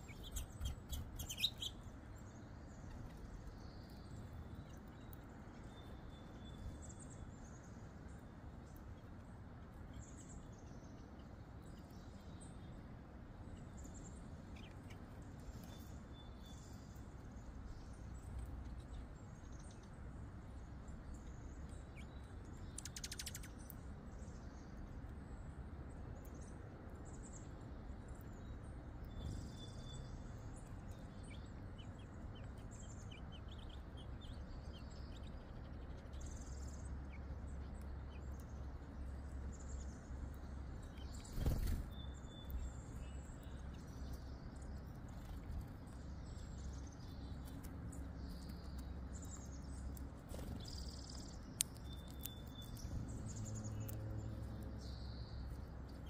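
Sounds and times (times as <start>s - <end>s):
small songbirds chirping: 0.0s - 56.0s
steady low rumble: 0.0s - 56.0s.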